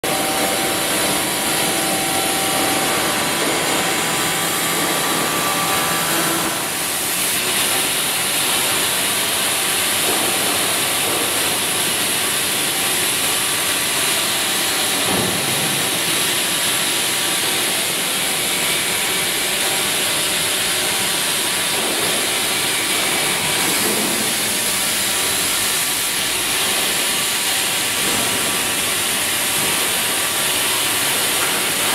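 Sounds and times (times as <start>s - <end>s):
cnc machine cutting steel: 0.0s - 31.9s.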